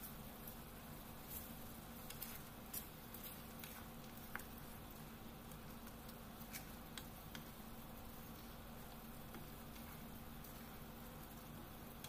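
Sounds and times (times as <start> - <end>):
food sizzling in a frying pan: 0.0 - 12.0
low steady hum: 0.0 - 12.0
spatula tossing noodles: 0.0 - 12.0.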